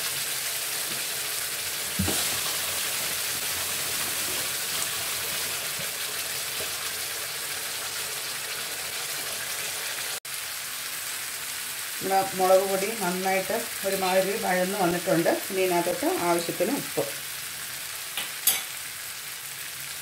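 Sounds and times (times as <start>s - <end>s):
paste sizzling in oil: 0.0s - 20.0s.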